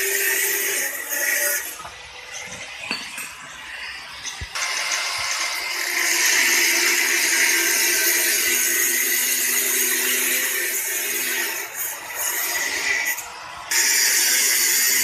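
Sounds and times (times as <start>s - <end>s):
angle grinder cutting steel: 0.0s - 15.0s.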